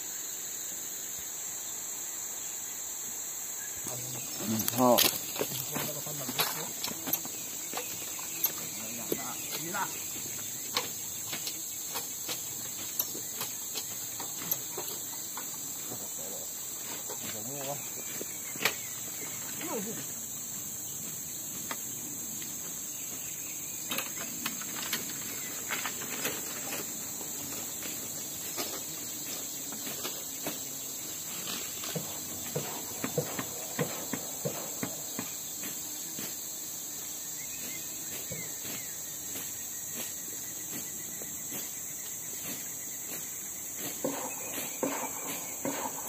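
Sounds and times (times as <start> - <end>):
forest insects droning: 0.0 - 46.0.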